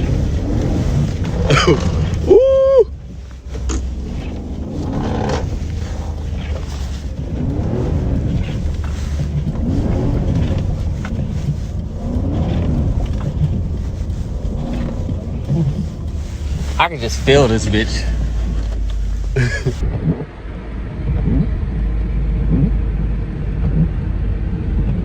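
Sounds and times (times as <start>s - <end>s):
engine rumbling with throttle: 0.0s - 25.0s.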